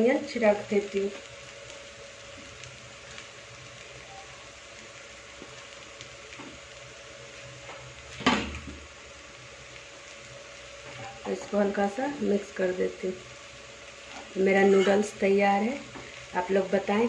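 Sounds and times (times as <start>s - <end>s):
faint steady hum: 0.0s - 17.0s
noodles sizzling in a pan: 0.0s - 17.0s.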